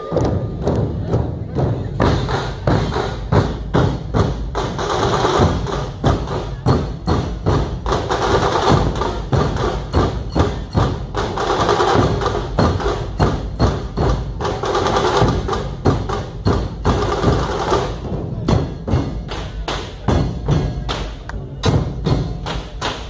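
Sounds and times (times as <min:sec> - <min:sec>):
fast drum roll: 0:00.0 - 0:20.9
barrel drums beating loudly: 0:00.0 - 0:23.0.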